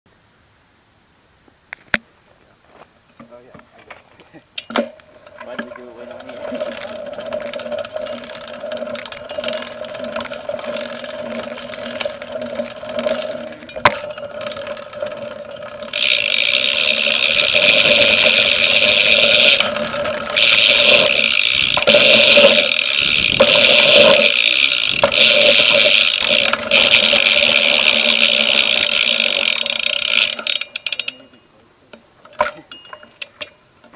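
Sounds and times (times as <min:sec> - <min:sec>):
bike rattling and scraping: 0:02.7 - 0:31.4, 0:32.2 - 0:33.9.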